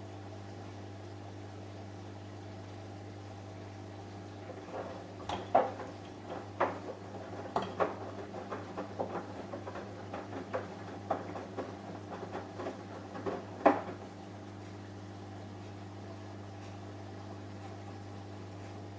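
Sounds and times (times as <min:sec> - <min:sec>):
washing machine humming: 0:00.0 - 0:18.9.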